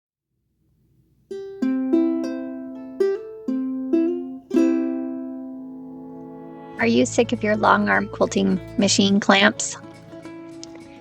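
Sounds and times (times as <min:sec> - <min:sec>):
plucked ukulele tune: 0:01.3 - 0:11.0.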